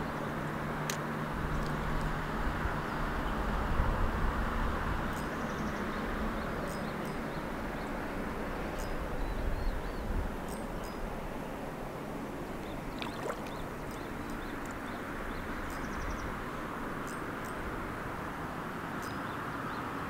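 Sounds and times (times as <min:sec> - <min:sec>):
flowing river water: 0:00.0 - 0:20.0
road traffic rumble: 0:00.0 - 0:20.0.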